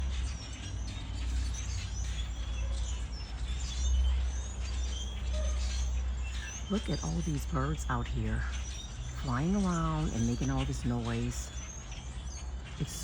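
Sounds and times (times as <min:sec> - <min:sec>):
flock of birds chirping: 0:00.0 - 0:13.0.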